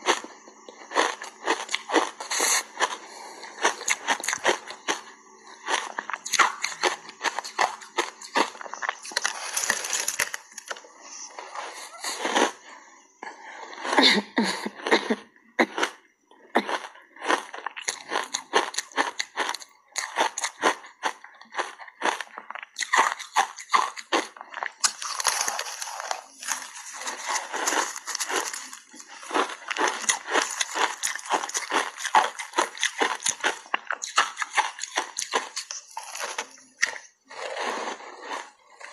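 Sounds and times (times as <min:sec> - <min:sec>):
ice crunching while chewed: 0:00.0 - 0:12.6, 0:15.6 - 0:38.9.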